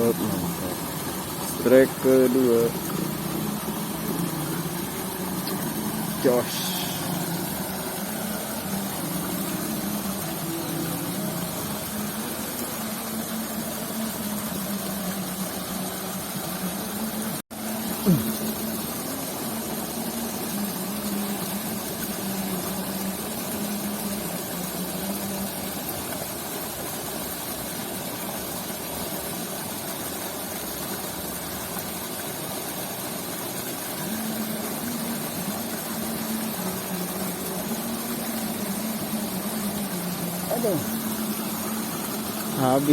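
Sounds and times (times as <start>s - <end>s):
constant hiss: 0.0s - 42.9s
motor-like hum: 0.0s - 42.9s.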